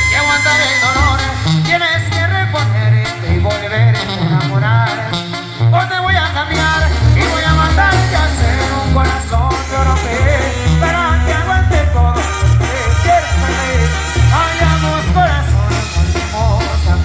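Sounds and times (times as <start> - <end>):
brass band playing: 0.0 - 17.0
tuba bass line: 0.0 - 17.0.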